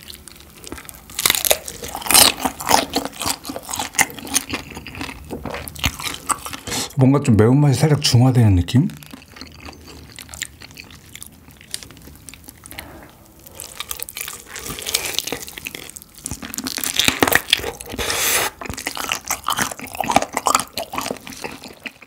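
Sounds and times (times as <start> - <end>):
crunching and chewing chicken: 0.0 - 7.0, 8.0 - 22.0.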